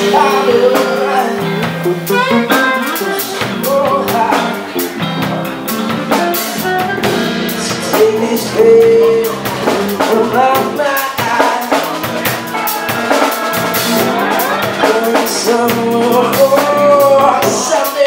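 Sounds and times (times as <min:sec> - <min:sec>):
electric bass: 0:00.0 - 0:17.8
drum kit: 0:00.0 - 0:18.0
electric guitar: 0:00.0 - 0:18.0
person singing: 0:00.0 - 0:18.0.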